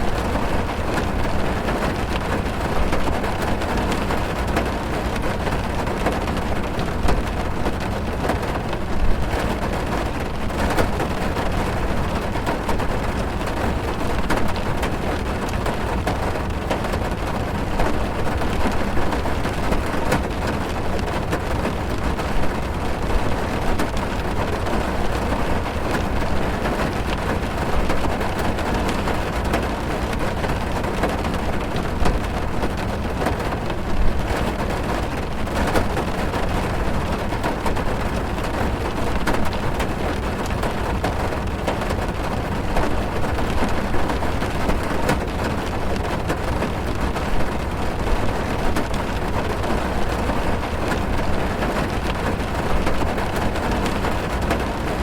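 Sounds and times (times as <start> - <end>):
heavy rain drumming on car roof: 0.0 - 55.0.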